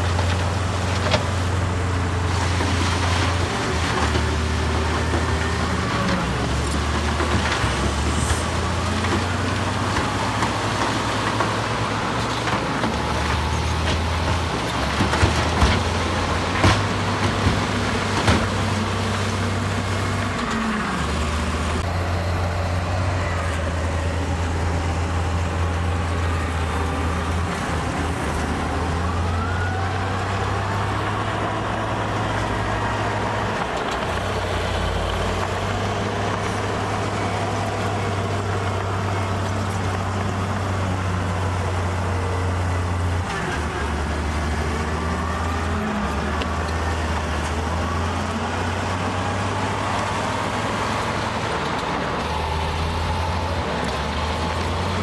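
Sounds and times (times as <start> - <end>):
heavy diesel machinery drone: 0.0 - 55.0.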